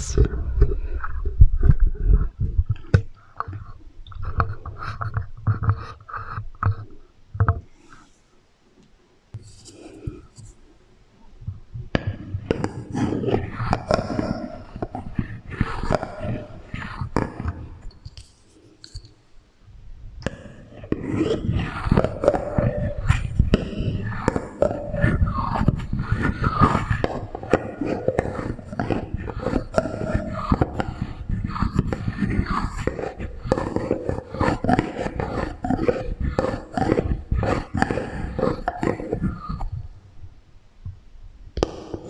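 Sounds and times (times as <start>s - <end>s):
clicks and scrapes with echo: 0.0s - 8.3s, 9.3s - 19.3s, 20.2s - 40.0s, 41.6s - 42.0s.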